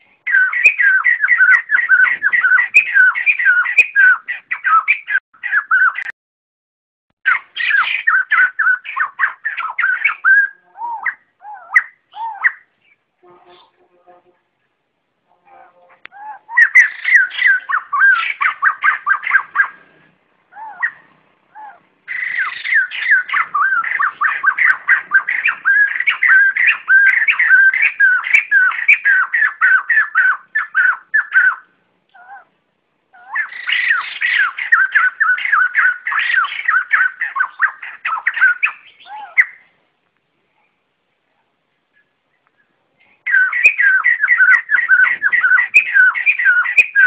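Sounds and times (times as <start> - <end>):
birds chattering: 0.0 - 6.1, 7.2 - 13.8, 15.7 - 39.8, 41.9 - 47.0.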